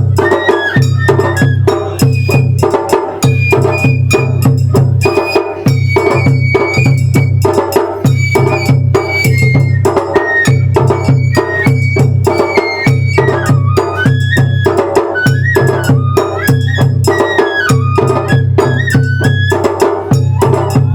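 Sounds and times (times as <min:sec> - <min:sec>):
bamboo flute melody: 0:00.0 - 0:20.9
drum and percussion strikes: 0:00.0 - 0:20.9.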